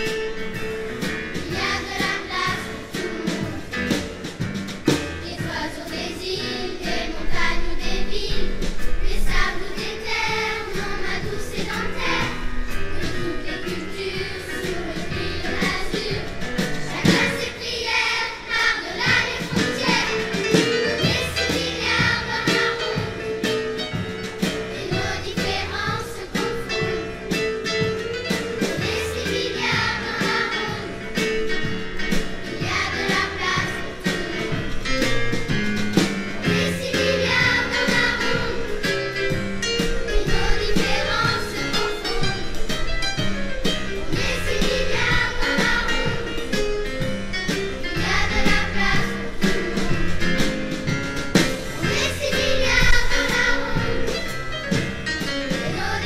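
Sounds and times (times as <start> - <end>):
musical accompaniment with steady beat: 0.0 - 56.0
children's choir singing: 1.3 - 23.5, 24.4 - 35.1, 36.0 - 42.7, 44.0 - 54.4, 55.2 - 56.0.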